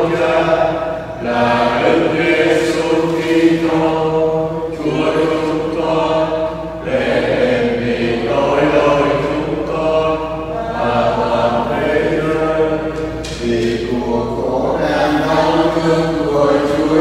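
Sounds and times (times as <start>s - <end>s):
chant-like hymn singing: 0.0s - 17.0s.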